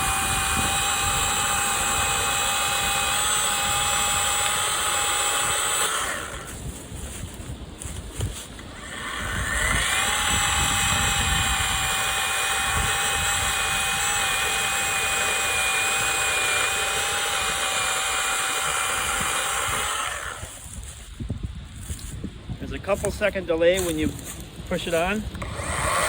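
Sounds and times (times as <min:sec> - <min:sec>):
electric chainsaw motor whine: 0:00.0 - 0:21.1, 0:24.2 - 0:26.0.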